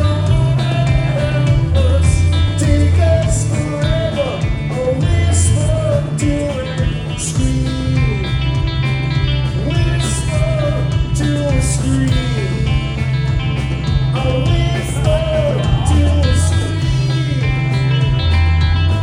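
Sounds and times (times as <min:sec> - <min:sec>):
guitar melody bending in pitch: 0:00.0 - 0:19.0
rock band playing live: 0:00.0 - 0:19.0.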